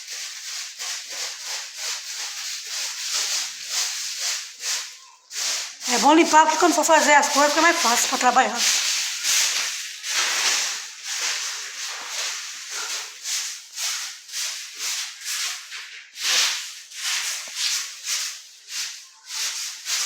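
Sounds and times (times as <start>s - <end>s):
broom sweeping a floor: 0.0s - 20.0s.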